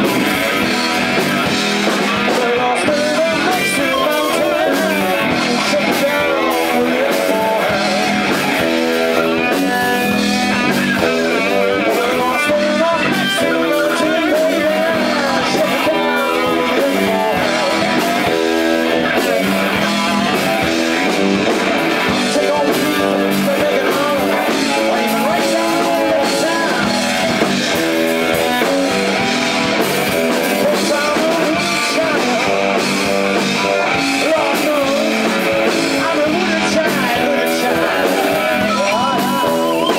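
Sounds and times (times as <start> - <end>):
electric guitar: 0.0 - 39.9
live rock band playing: 0.0 - 39.9
man singing: 0.0 - 39.9.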